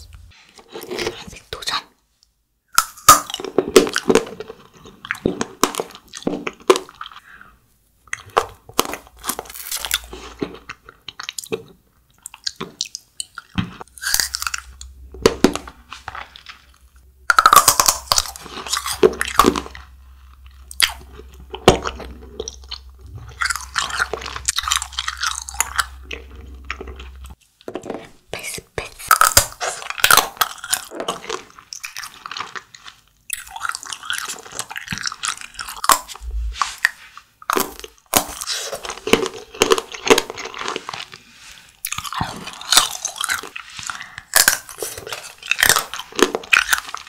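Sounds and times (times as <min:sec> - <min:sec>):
crunching and chewing candy: 0:02.7 - 0:47.0.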